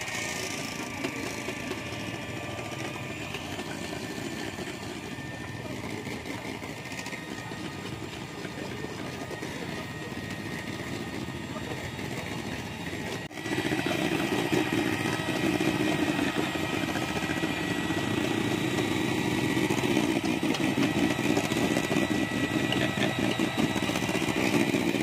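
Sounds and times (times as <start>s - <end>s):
electric mixer whirring: 0.0s - 25.0s.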